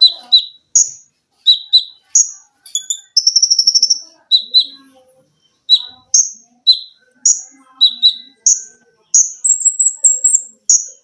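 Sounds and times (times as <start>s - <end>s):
songbird singing sharp notes: 0.0s - 11.0s.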